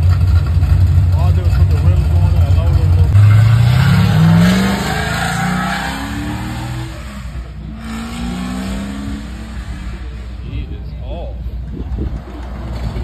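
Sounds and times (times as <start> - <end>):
engine accelerating away: 0.0 - 10.9.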